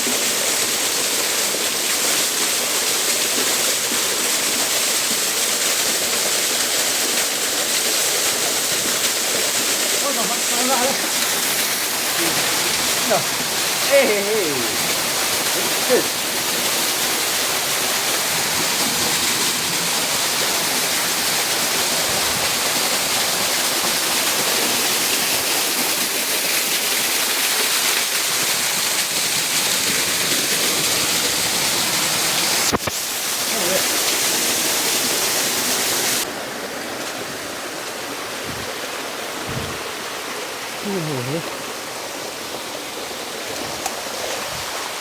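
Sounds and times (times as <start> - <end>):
flowing water rushing: 0.0 - 45.0.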